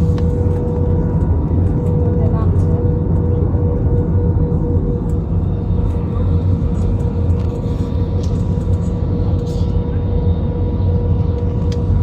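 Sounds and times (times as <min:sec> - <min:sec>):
constant hum: 0:00.0 - 0:12.0
engine and airflow rumble: 0:00.0 - 0:12.0.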